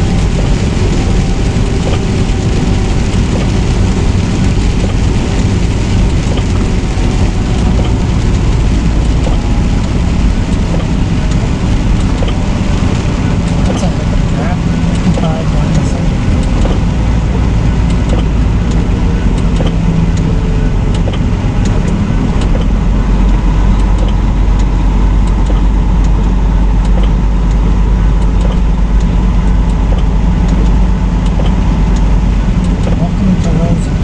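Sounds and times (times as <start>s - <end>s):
road noise: 0.0s - 34.0s
truck engine drone: 0.0s - 34.0s.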